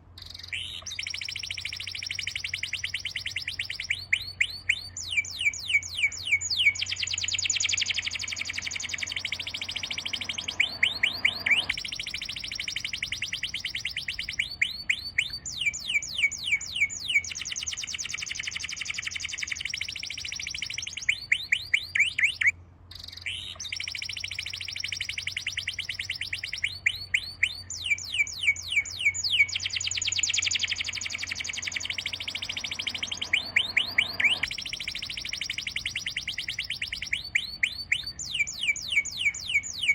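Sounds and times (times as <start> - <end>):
faint low hum: 0.0 - 39.9
songbird trilling: 0.2 - 39.9.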